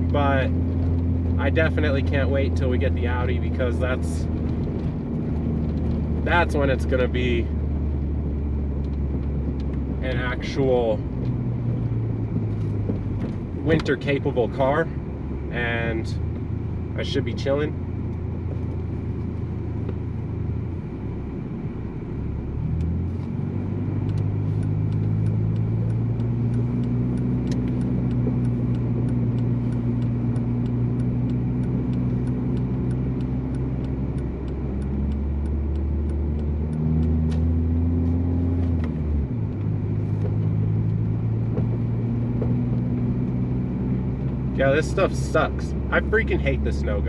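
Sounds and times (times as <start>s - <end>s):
car engine cruising: 0.0s - 47.0s.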